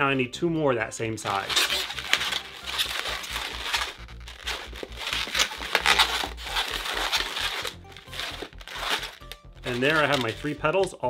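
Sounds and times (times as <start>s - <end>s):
background music: 0.0s - 11.0s
balloons squeaking and rubbing: 1.2s - 10.7s.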